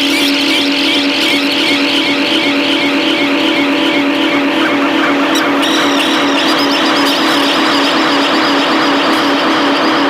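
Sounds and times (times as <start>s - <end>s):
dense wall of noise: 0.9s - 10.0s
low drone: 0.9s - 10.0s
fast high-pitched repeating pattern: 1.8s - 10.0s.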